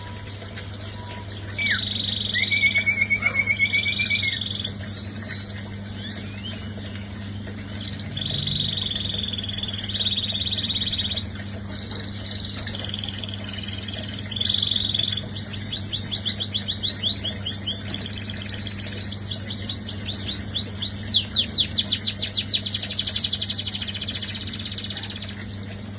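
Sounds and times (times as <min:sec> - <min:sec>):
canary singing trills: 0:00.0 - 0:25.4
steady low hum: 0:00.0 - 0:25.9.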